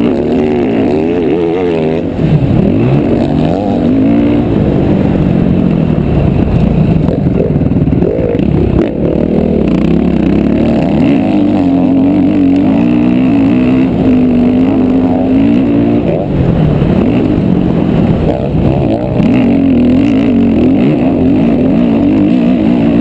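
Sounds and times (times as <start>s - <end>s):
motocross bike engine revving: 0.0s - 23.0s.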